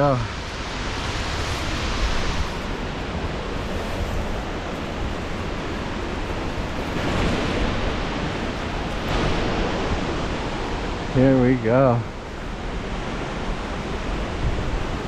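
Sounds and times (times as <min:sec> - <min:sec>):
waterfall crashing: 0:00.0 - 0:15.0
wind buffeting microphone: 0:00.0 - 0:15.0.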